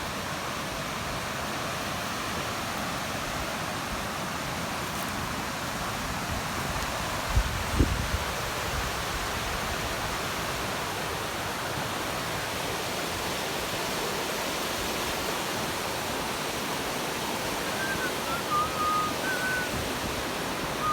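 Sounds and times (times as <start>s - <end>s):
flowing water rushing: 0.0s - 20.9s.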